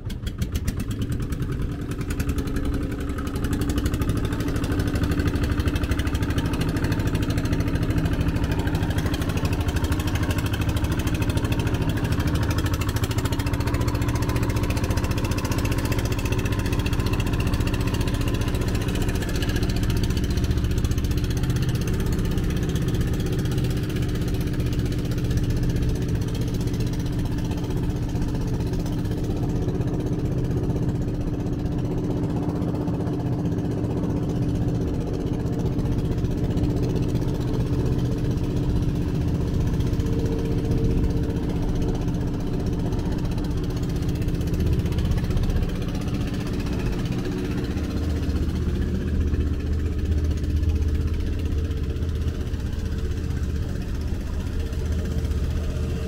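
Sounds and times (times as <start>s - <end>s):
ferry boat engine running: 0.0s - 56.0s.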